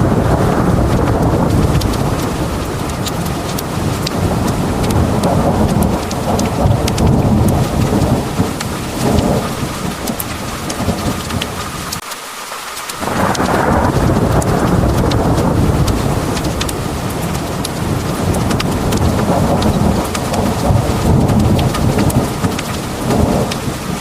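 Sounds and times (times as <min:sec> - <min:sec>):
deep rolling thunder rumble: 0:00.0 - 0:12.0, 0:13.0 - 0:24.0
heavy rain pouring: 0:00.0 - 0:24.0
drops ticking on hard surface: 0:01.2 - 0:11.6, 0:14.4 - 0:23.7.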